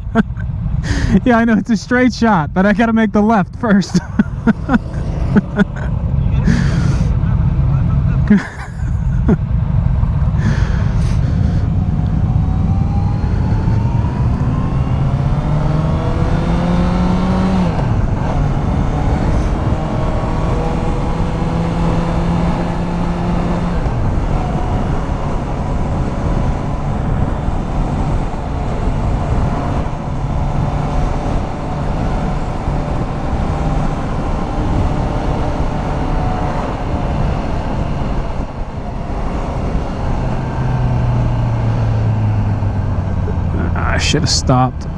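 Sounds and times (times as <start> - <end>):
motorcycle engine accelerating: 0.0 - 2.6, 3.6 - 44.9
wind and road noise: 0.0 - 44.9.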